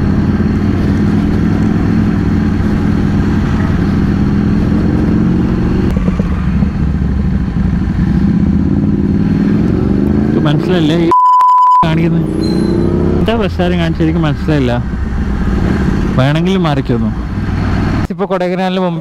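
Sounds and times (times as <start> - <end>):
motorcycle engine running: 0.0 - 10.4, 12.4 - 18.0.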